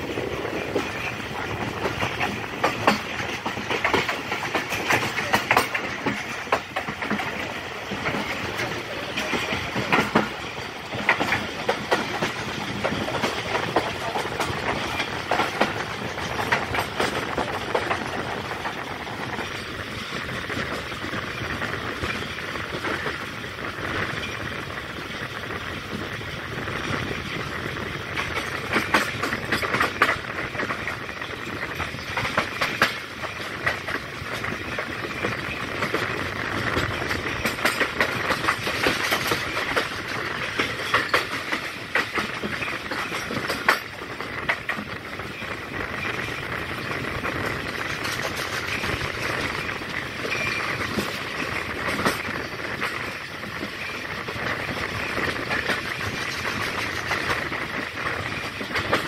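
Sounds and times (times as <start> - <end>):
train wheels rumbling on rails: 0.0 - 59.0
sharp clanks and clicks: 0.5 - 21.1, 28.0 - 45.0, 46.0 - 59.0.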